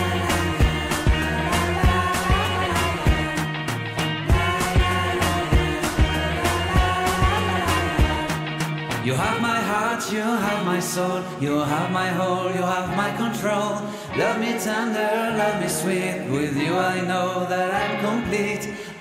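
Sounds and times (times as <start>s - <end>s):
person singing: 0.0s - 19.0s.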